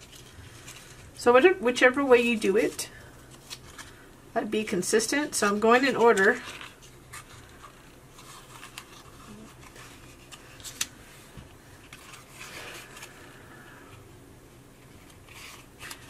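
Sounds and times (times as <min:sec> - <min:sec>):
paper rustling and folding: 0:00.0 - 0:04.0, 0:05.3 - 0:14.0, 0:14.8 - 0:16.0.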